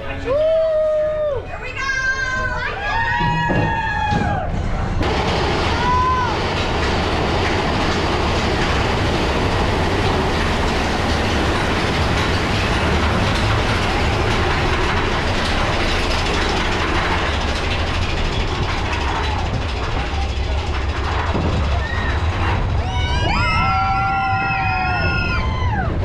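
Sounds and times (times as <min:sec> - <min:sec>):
roller coaster rumbling on track: 0:00.0 - 0:26.0.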